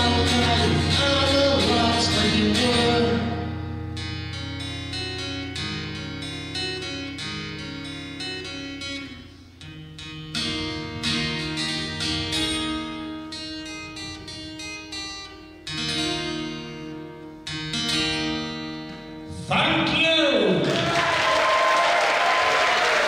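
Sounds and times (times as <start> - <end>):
acoustic guitar chords: 0.0 - 21.2.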